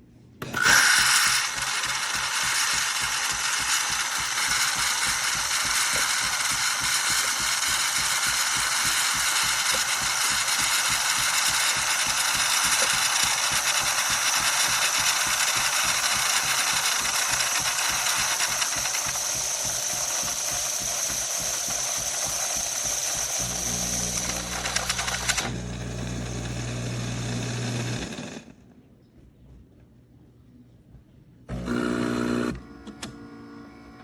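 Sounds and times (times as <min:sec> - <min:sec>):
espresso machine whirring: 0:00.4 - 0:28.5, 0:31.5 - 0:34.0.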